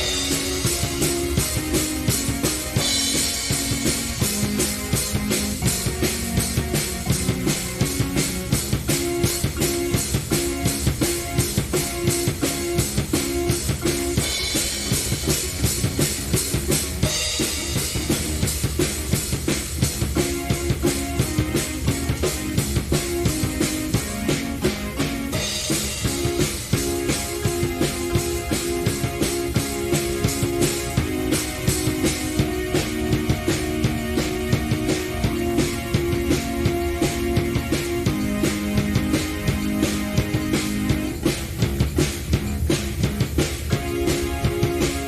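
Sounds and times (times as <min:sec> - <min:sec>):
drum kit driving beat: 0:00.0 - 0:45.0
repeating keyboard figure: 0:00.0 - 0:45.0.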